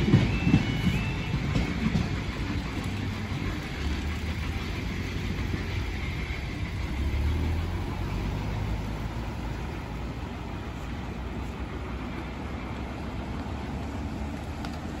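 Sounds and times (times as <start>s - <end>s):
cars moving slowly: 0.0s - 15.0s
car driving past: 2.8s - 15.0s.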